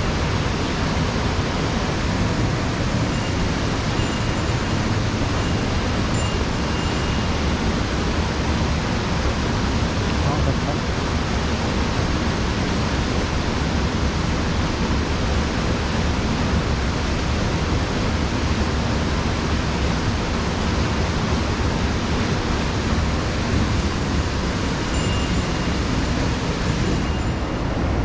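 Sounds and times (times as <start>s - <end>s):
mountain stream rushing: 0.0s - 28.0s.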